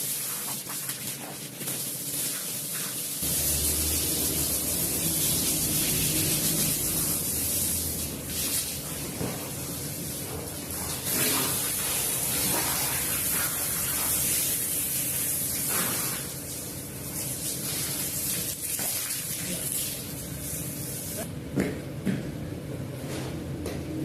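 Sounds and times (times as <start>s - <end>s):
water spraying onto wet rug: 0.0s - 21.3s.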